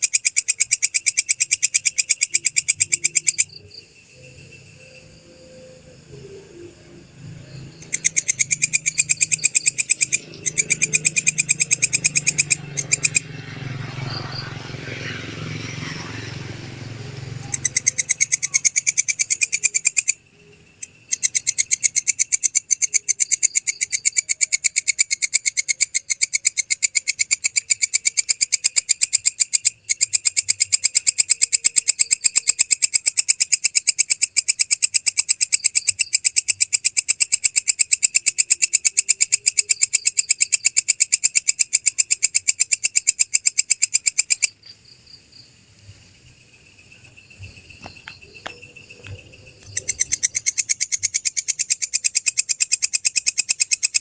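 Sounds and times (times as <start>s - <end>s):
katydid ticking calls: 0.0s - 45.5s, 46.3s - 54.0s.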